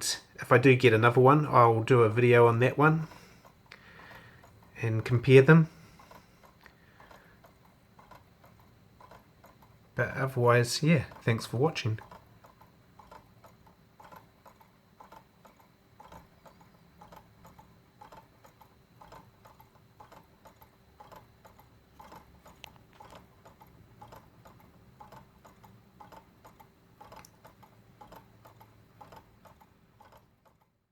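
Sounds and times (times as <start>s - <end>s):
clock ticking faintly: 0.0s - 30.9s.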